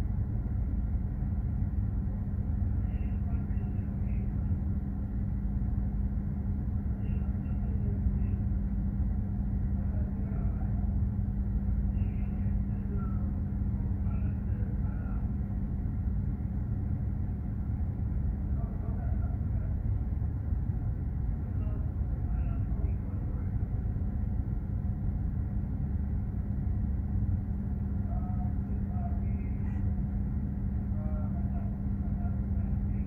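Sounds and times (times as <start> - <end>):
constant hum: 0.0 - 33.0
ship engine rumble: 0.0 - 33.0.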